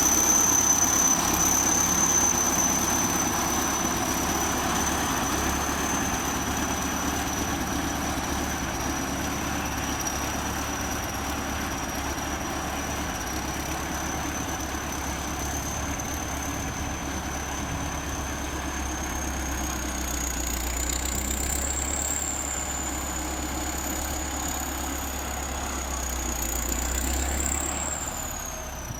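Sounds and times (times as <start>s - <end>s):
bulldozer diesel engine running: 0.0s - 28.9s.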